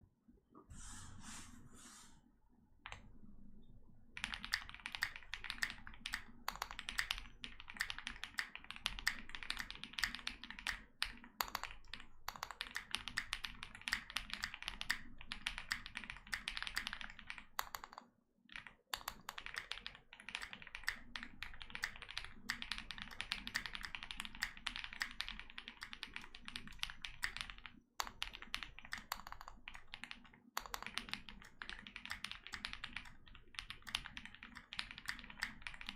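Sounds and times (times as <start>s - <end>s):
mechanical keyboard typing: 4.2s - 35.9s.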